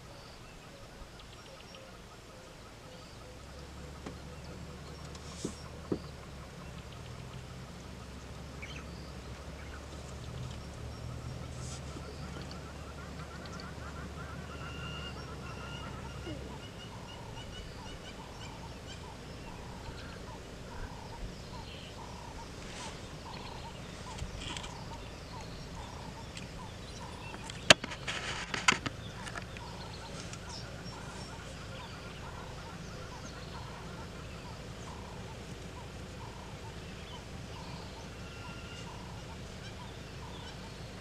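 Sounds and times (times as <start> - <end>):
birds calling: 0.0 - 41.0
engine idling: 0.0 - 41.0.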